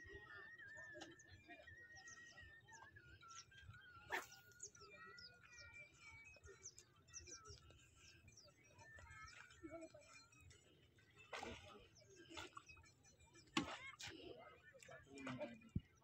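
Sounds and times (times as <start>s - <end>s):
birds chirping and twittering: 0.0s - 16.0s.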